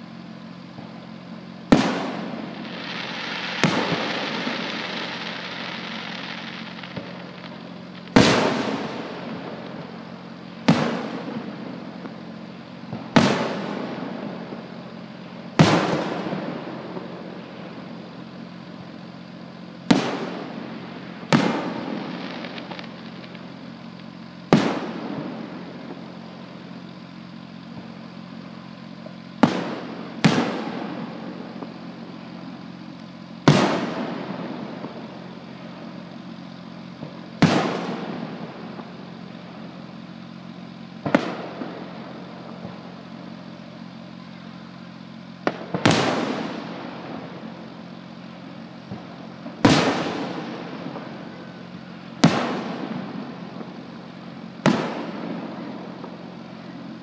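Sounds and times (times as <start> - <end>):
fireworks bursting with bangs: 0.0 - 57.0
steady low hum: 0.0 - 57.0.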